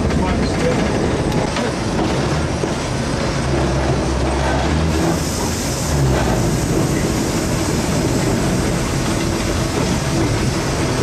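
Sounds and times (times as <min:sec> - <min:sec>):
steam locomotive running rumble and rattle: 0:00.0 - 0:11.0.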